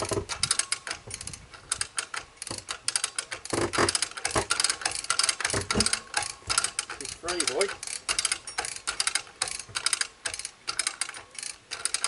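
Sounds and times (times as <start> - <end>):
hoist ratcheting clicks: 0.0 - 12.0.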